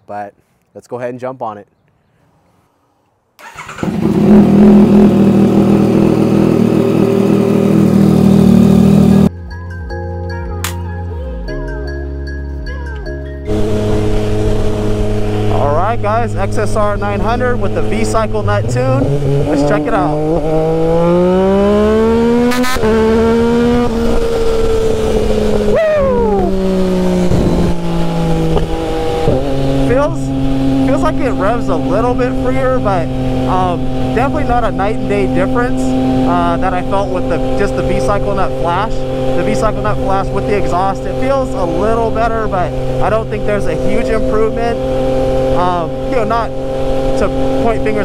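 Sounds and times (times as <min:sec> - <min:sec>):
motorcycle engine accelerating: 0:03.4 - 0:09.3, 0:13.5 - 0:48.0.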